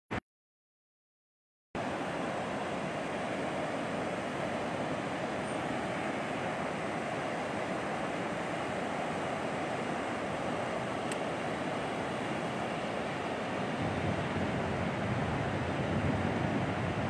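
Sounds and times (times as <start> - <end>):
ocean surf breaking on beach: 1.8 - 17.0.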